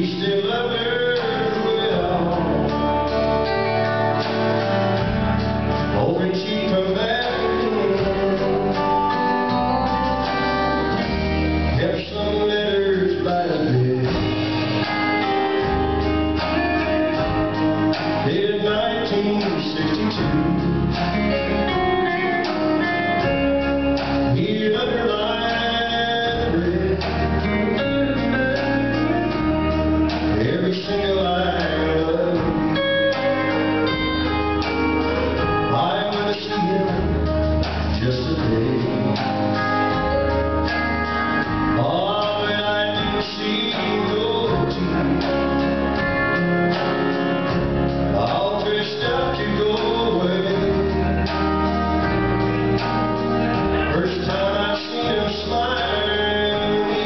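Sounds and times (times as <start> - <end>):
acoustic guitar: 0.0 - 57.0
backing band: 0.0 - 57.0
man singing: 0.0 - 57.0.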